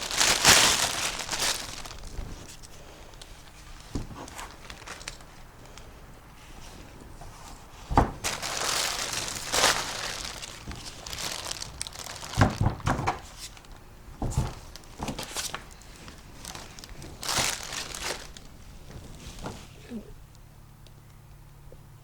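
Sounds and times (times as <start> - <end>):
packing material crinkling and tearing: 0.0 - 6.3, 7.4 - 19.7.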